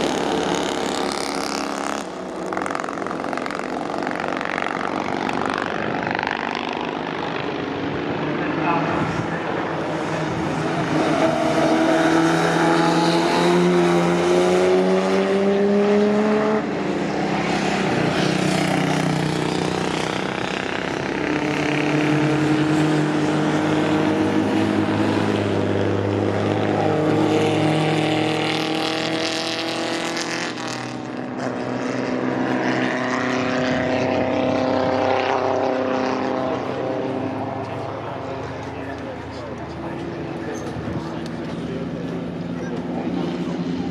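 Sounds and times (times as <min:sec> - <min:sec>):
racing car engines passing: 0:00.0 - 0:43.9.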